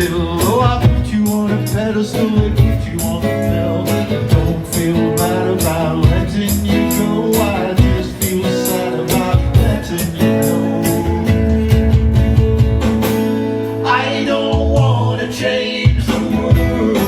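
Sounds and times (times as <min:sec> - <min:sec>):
band playing guitar-led song: 0:00.0 - 0:17.0.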